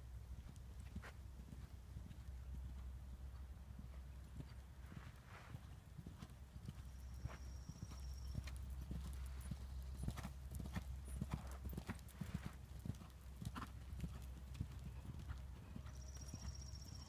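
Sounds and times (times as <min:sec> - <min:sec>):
horse hoofbeats cantering on sand: 0:00.4 - 0:17.0.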